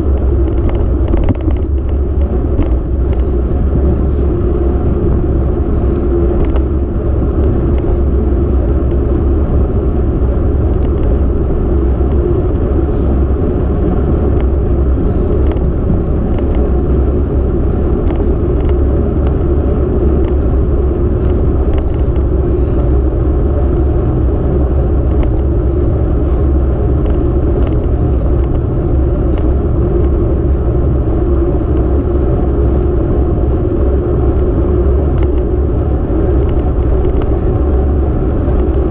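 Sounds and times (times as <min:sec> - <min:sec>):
tyres rolling on road: 0:00.0 - 0:38.9
wind buffeting microphone: 0:00.0 - 0:38.9.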